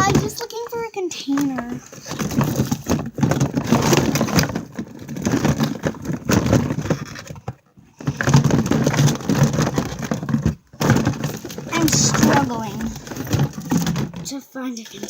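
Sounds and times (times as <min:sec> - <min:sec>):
clattering knocks and rustles: 0:00.0 - 0:14.4.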